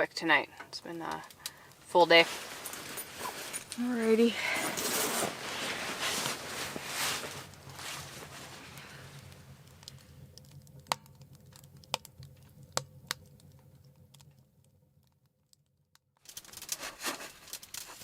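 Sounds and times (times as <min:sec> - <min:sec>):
faint crackling and rustling: 0:00.0 - 0:15.2, 0:16.2 - 0:18.0.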